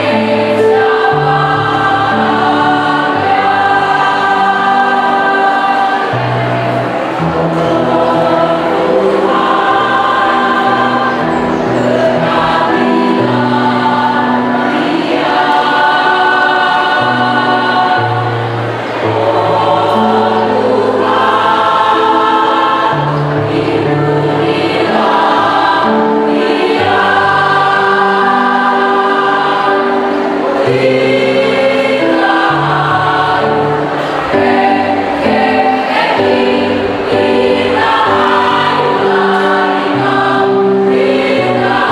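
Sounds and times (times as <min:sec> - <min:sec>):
mixed choir singing: 0:00.0 - 0:41.9.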